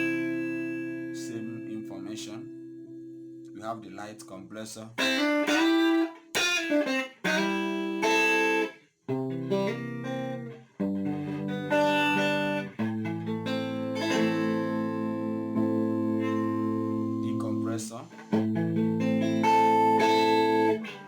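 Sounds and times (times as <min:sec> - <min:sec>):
electric guitar chords ringing: 0:00.0 - 0:04.3, 0:05.0 - 0:21.0.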